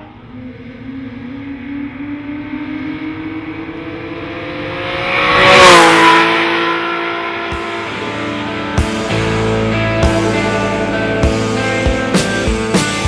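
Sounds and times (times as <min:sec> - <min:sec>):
sports car accelerating past: 0:00.0 - 0:11.2.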